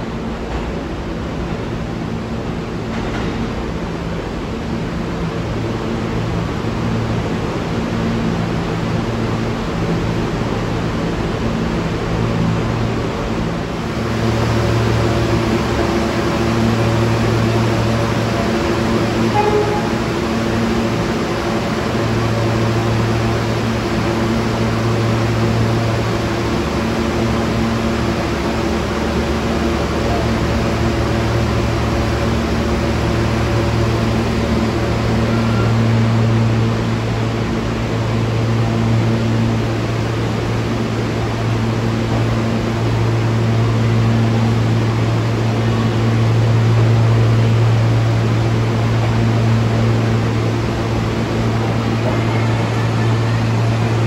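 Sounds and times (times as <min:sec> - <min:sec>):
subway train humming: 0:00.0 - 0:54.0.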